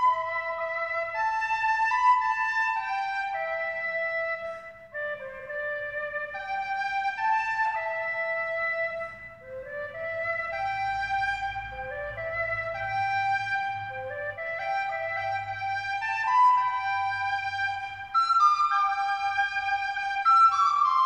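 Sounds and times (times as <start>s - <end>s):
woodwind melody: 0.0s - 21.0s.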